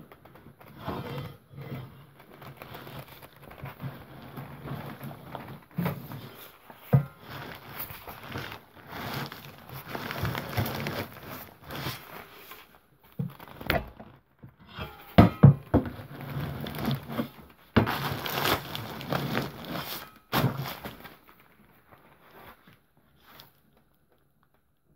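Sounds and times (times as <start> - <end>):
rubbish crinkling in a bin: 2.0 - 24.8.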